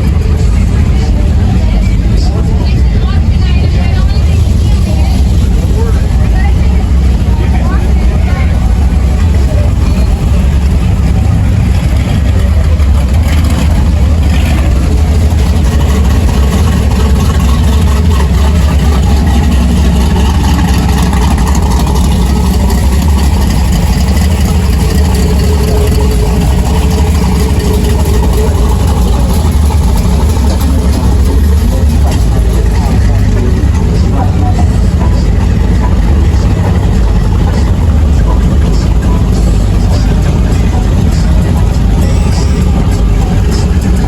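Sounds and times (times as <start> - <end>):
car engines idling: 0.0 - 44.0.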